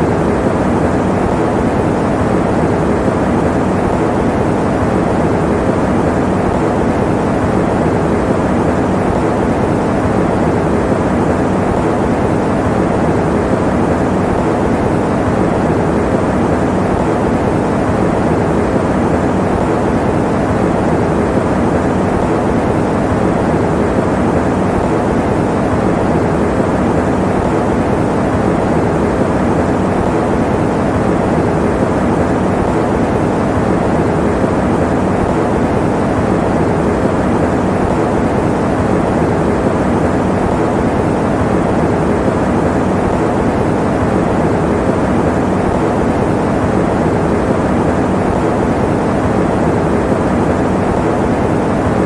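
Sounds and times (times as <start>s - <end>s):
electric fan running: 0.0s - 52.0s.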